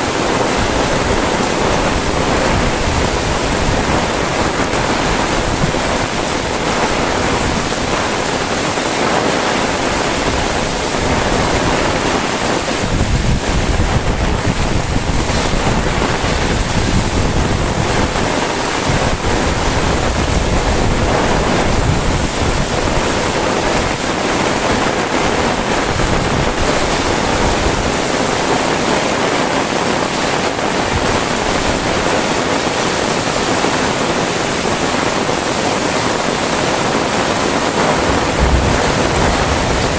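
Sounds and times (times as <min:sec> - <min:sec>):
heavy rain hissing: 0:00.0 - 0:39.9
wind buffeting microphone: 0:00.0 - 0:39.9.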